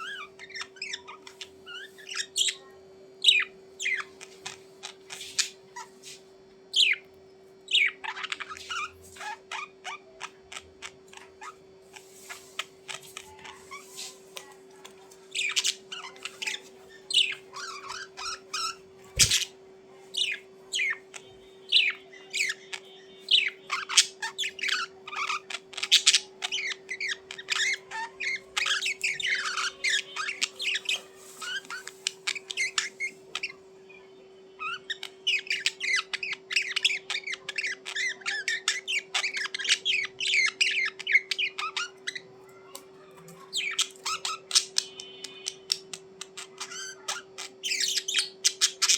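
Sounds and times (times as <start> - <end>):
budgerigars chirping and chattering: 0.0 - 33.6, 34.5 - 48.9.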